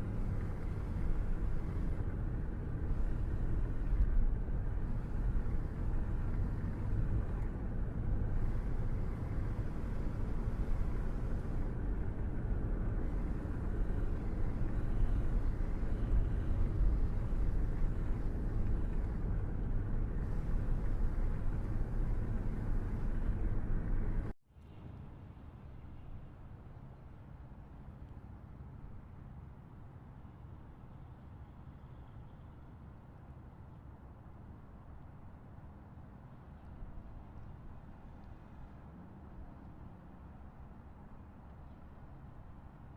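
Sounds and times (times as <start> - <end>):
car road and engine noise: 0.0 - 24.4, 30.2 - 42.9.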